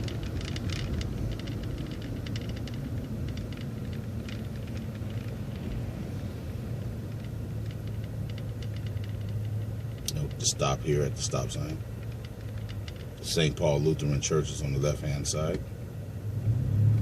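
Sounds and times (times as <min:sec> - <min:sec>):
cabin rattles and ticks: 0:00.0 - 0:06.0, 0:06.7 - 0:15.5
bus engine drone: 0:00.0 - 0:17.0.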